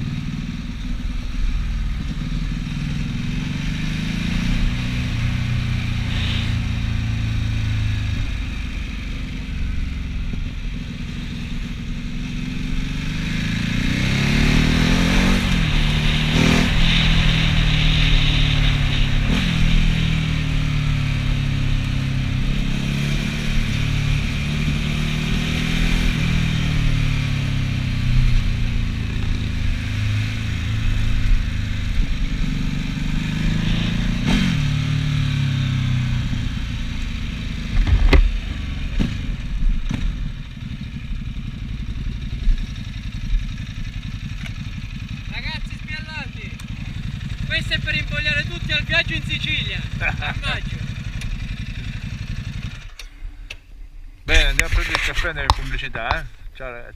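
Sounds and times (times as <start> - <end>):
motorcycle engine revving: 0.0 - 53.5.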